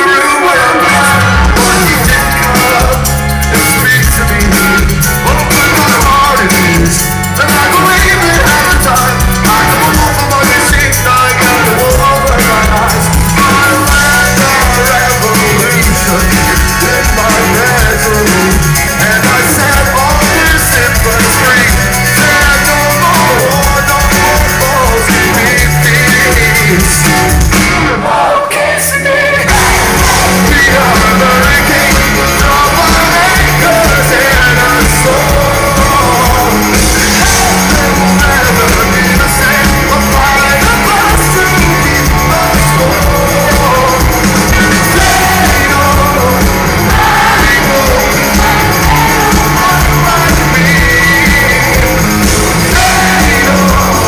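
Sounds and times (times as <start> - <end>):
drums: 0.0 - 54.0
electric guitars: 0.0 - 54.0
singer: 0.0 - 54.0.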